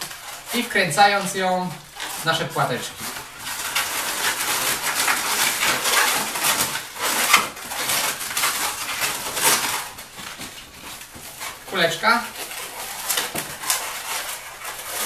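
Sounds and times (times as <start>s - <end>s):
balloons squeaking and rubbing: 0.0s - 15.0s.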